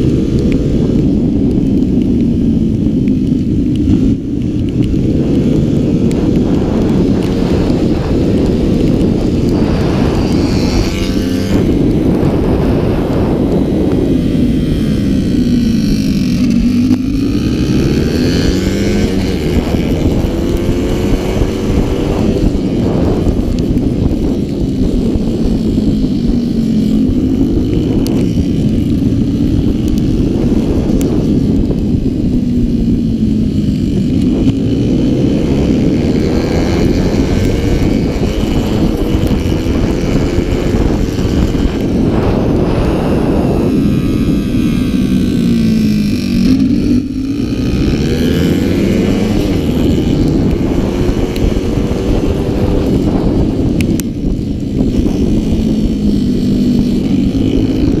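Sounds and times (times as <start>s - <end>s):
wind on microphone: 0.0s - 58.0s
scooter engine revving: 5.3s - 58.0s.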